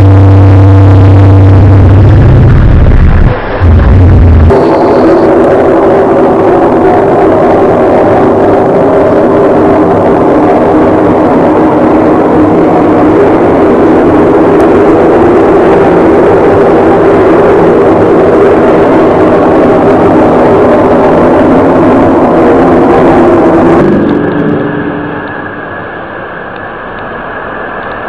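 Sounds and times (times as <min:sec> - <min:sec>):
loud droning hum: 0:00.0 - 0:28.0
thin steady hum: 0:00.0 - 0:28.0.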